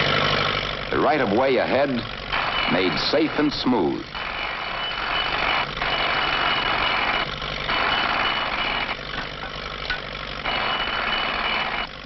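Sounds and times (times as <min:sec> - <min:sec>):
loud mechanical machinery noise: 0:00.0 - 0:12.0
steady low hum: 0:00.0 - 0:12.0
thin steady whine: 0:00.0 - 0:12.0.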